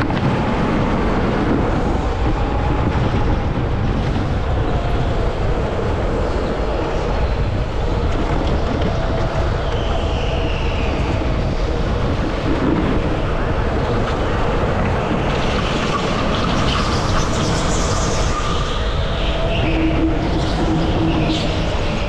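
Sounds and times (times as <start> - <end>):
tyre and wind noise: 0.0 - 22.0.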